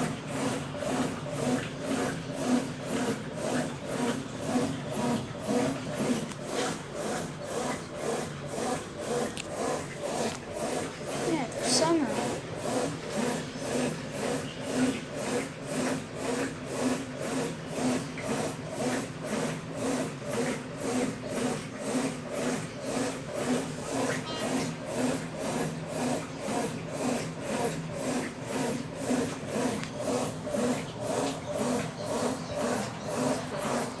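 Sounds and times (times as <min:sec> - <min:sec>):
washing machine swishing churn: 0:00.0 - 0:34.0.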